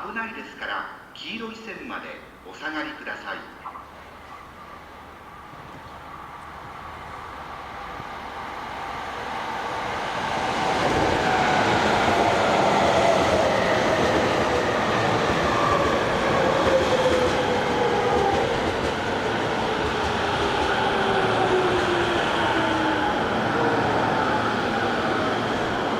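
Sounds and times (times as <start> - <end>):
electric train passing: 3.9 - 25.9.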